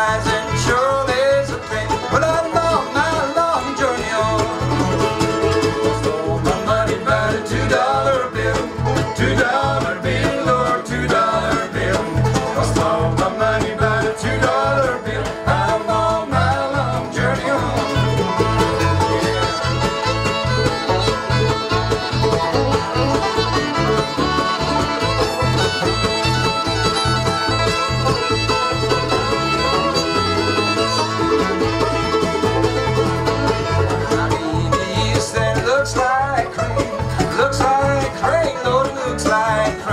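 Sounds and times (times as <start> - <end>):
banjo guitar and mandolin rhythm: 0.0 - 39.9
bass keeping steady beat: 0.0 - 39.9
fiddle playing lead: 0.0 - 39.9.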